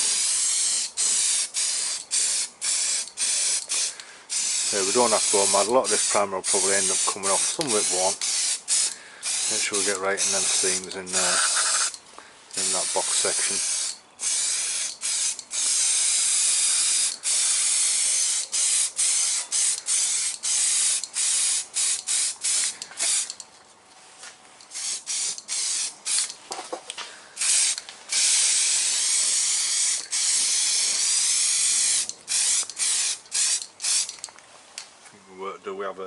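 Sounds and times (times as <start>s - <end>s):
aerosol can spraying: 0.0s - 23.4s, 24.7s - 26.4s, 27.4s - 34.3s.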